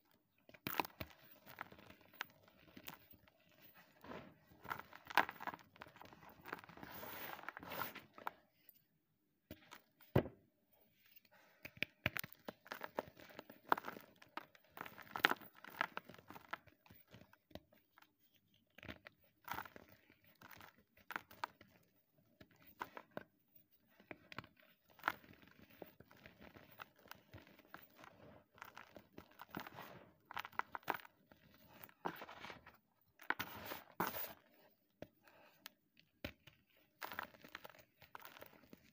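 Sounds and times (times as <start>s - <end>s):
chalk crunching and crumbling: 0.5s - 8.3s, 11.0s - 35.6s, 36.2s - 38.9s.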